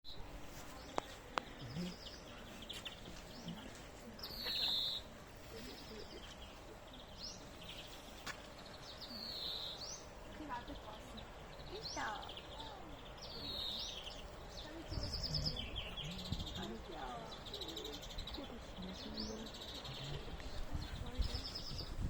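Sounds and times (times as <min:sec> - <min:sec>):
small birds chirping and twittering: 0:00.1 - 0:22.0.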